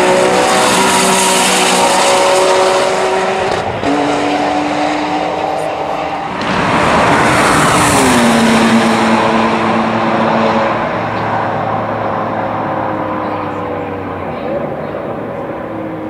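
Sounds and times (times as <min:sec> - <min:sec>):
sports car engine passing by: 0:00.0 - 0:16.0.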